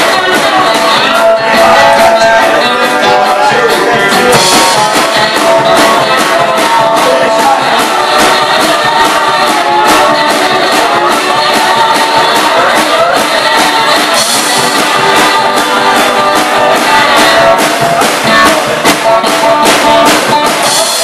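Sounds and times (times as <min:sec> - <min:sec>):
kick drum and cymbal beat: 0:00.0 - 0:21.0
man singing: 0:00.0 - 0:21.0
strummed guitar: 0:00.0 - 0:21.0.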